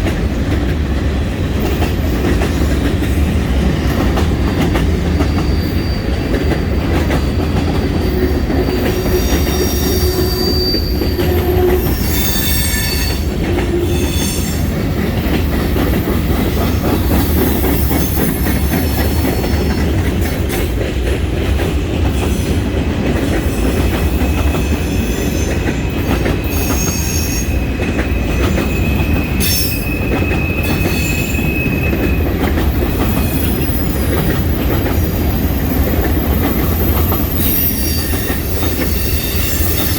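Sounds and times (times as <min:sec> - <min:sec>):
freight train wheels rumbling: 0:00.0 - 0:39.9
train wheel squeals: 0:03.7 - 0:20.8, 0:23.4 - 0:39.9.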